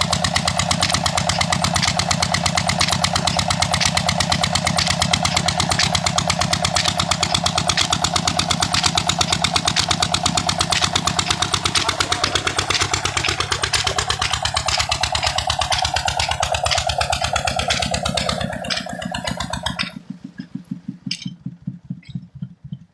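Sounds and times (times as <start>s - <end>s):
diesel engine running: 0.0s - 22.9s
faint slow engine beats: 0.0s - 22.9s.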